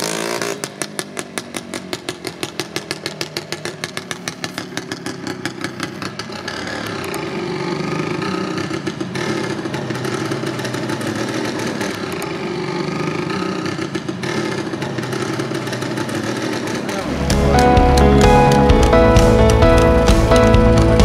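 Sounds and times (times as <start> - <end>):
two-stroke scooter engine: 0.0 - 21.0.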